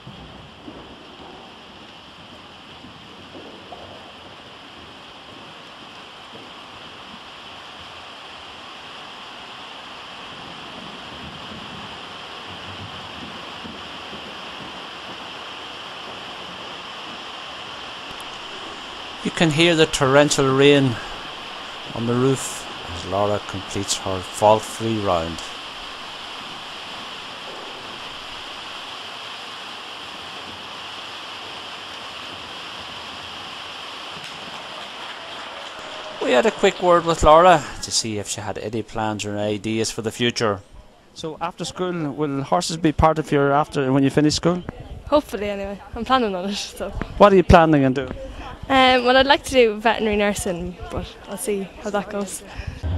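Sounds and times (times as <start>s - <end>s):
heavy rain on metal roof: 0.0s - 40.5s, 41.1s - 52.9s.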